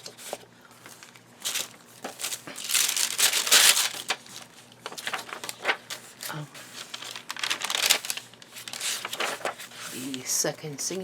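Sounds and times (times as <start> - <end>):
paper rustling and sliding: 0.0 - 10.2.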